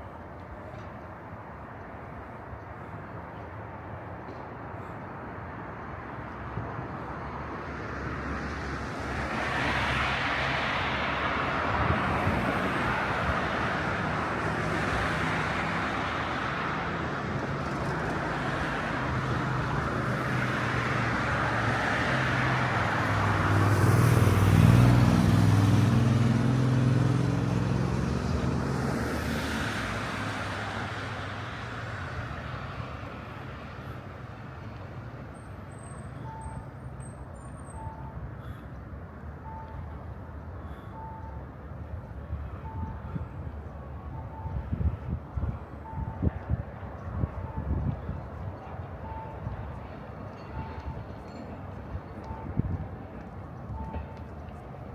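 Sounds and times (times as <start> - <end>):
cars passing: 6.0 - 54.9.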